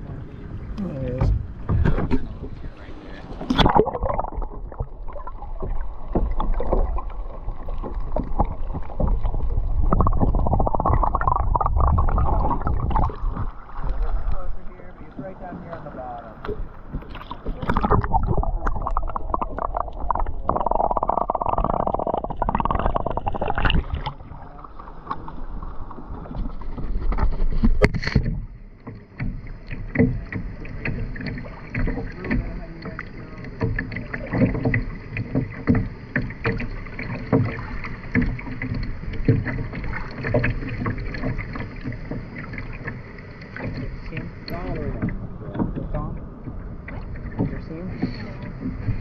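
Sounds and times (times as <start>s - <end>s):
paddle splashing water: 0.0s - 49.0s
rushing water: 0.0s - 49.0s
water sloshing and dripping: 1.0s - 49.0s.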